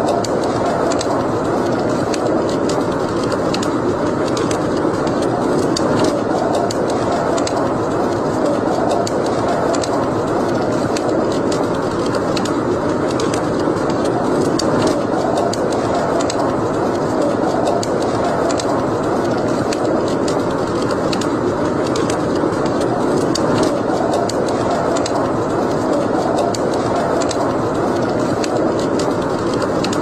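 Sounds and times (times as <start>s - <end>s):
fire crackling: 0.0s - 30.0s
wood fire rushing: 0.0s - 30.0s.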